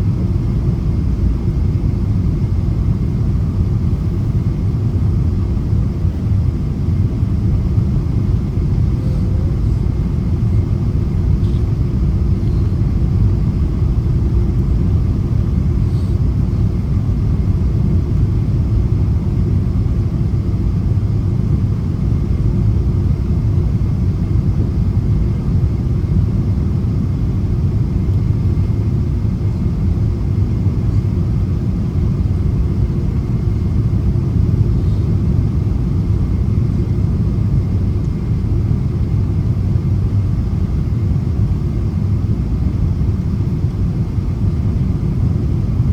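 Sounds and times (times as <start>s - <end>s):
airplane cabin engine rumble: 0.0s - 45.9s
faint steady whine: 0.0s - 45.9s.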